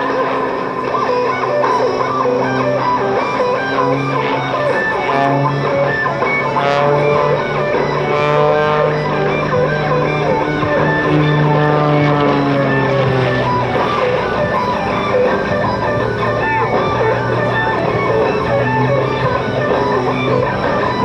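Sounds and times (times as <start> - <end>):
guitar background music: 0.0 - 21.0
low bass line: 1.7 - 21.0.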